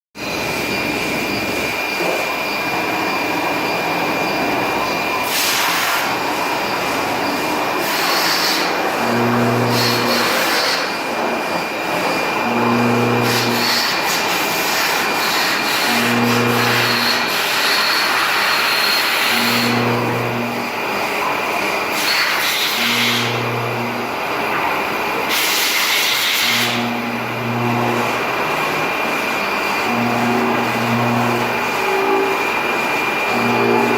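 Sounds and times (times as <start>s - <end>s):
machine running with high whine: 0.2s - 33.9s.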